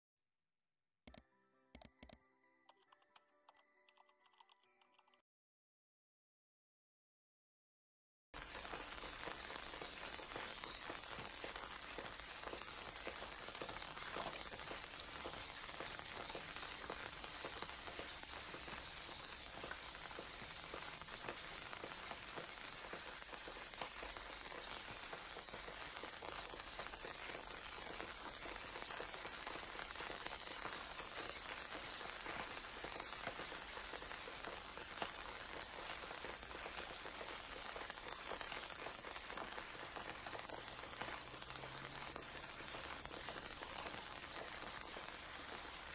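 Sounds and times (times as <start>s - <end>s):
vegetables sizzling in hot oil: 8.4s - 45.9s.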